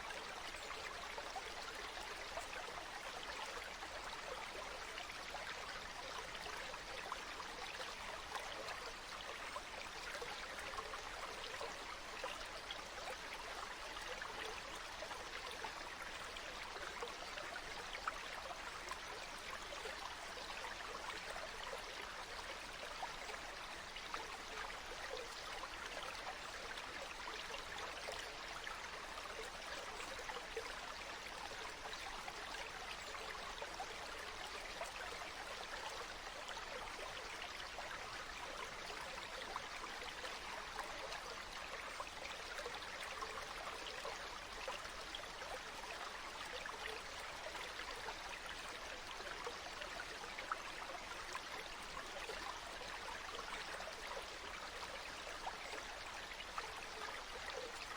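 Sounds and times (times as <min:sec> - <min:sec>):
stream water babbling: 0:00.0 - 0:57.9.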